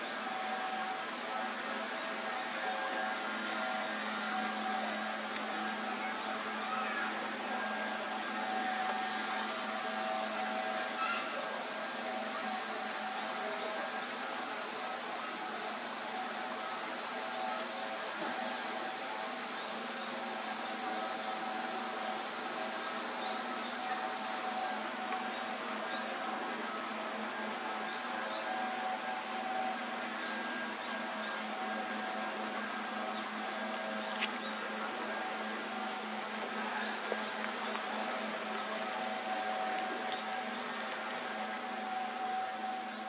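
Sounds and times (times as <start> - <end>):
insects chirring drone: 0.0 - 43.0
low steady hum: 0.0 - 43.0.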